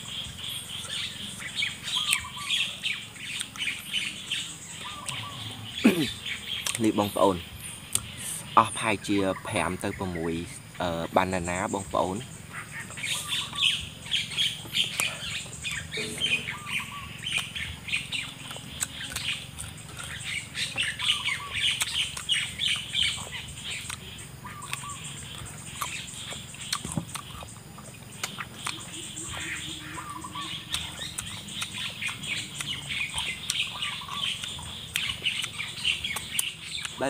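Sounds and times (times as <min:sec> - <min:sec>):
birds chirping and calling: 0:00.0 - 0:37.0
chewing and crunching fruit: 0:00.0 - 0:37.0.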